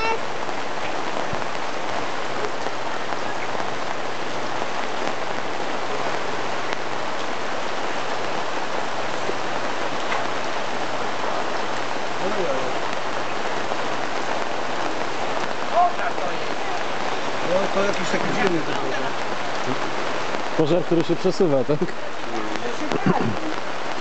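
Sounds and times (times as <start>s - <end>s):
heavy rain: 0.0s - 24.0s
raindrops ticking close by: 0.0s - 24.0s.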